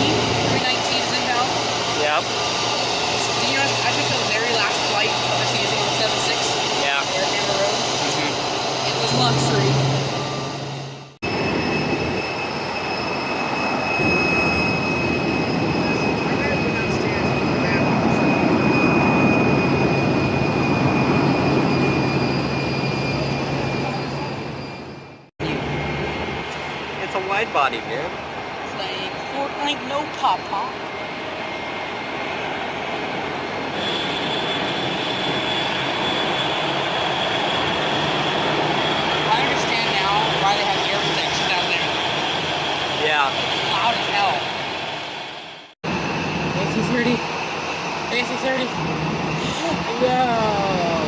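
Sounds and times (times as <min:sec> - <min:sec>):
jet engines whining: 0:00.0 - 0:51.0.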